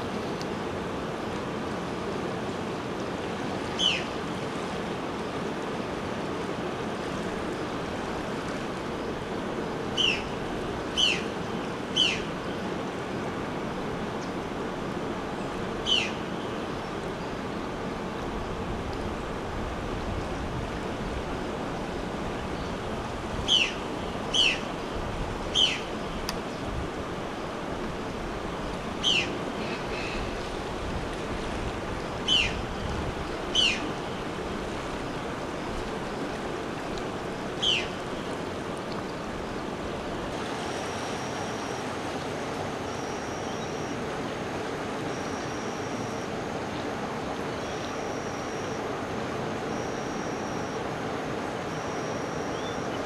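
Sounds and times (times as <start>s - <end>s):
river rushing over rocks: 0.0s - 53.0s.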